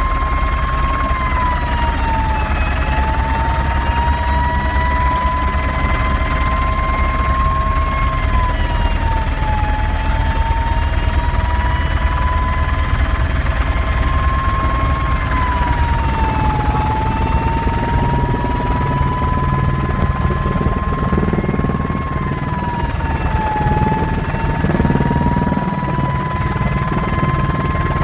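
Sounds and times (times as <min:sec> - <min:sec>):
helicopter rotor and turbine drone: 0:00.0 - 0:28.0
helicopter turbine whine: 0:00.0 - 0:28.0.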